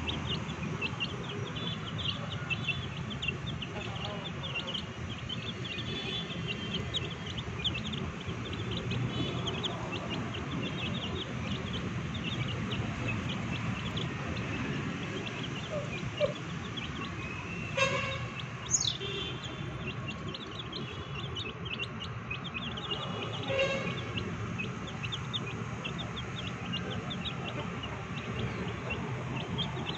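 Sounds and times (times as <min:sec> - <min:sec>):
chicks peeping: 0:00.0 - 0:29.9.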